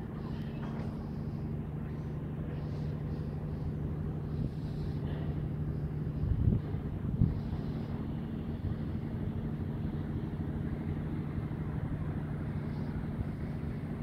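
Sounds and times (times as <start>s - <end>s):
cable car cables humming: 0.0s - 14.0s.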